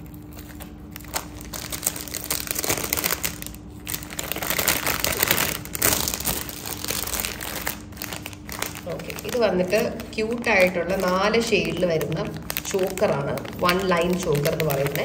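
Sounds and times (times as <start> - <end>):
plastic pouches crinkling: 0.0 - 15.0.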